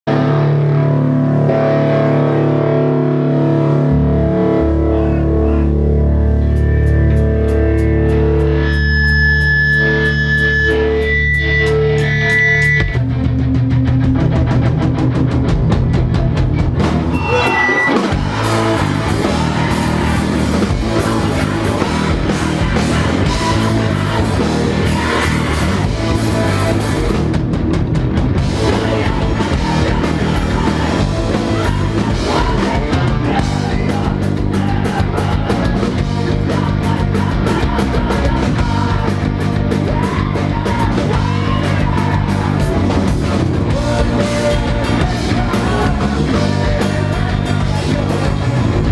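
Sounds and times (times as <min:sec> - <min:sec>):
electric guitar: 0:00.0 - 0:48.9
rock band playing live: 0:00.0 - 0:48.9
drum kit: 0:00.1 - 0:48.9.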